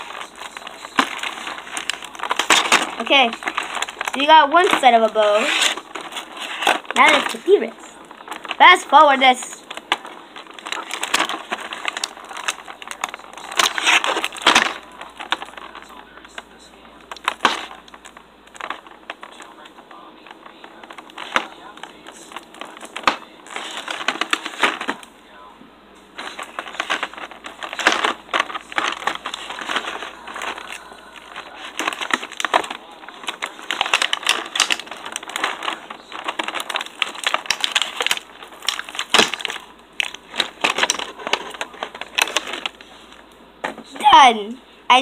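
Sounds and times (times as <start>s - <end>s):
plastic packaging crinkling: 0.0s - 44.3s.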